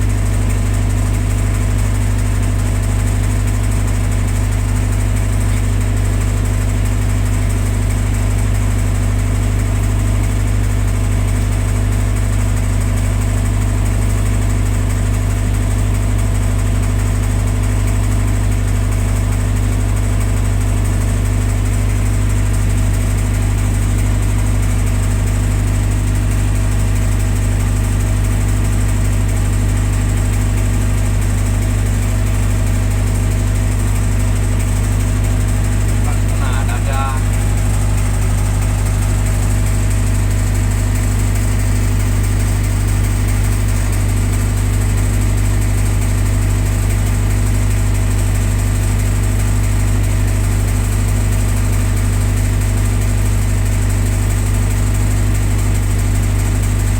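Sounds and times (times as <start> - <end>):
generator engine droning: 0.0 - 56.9.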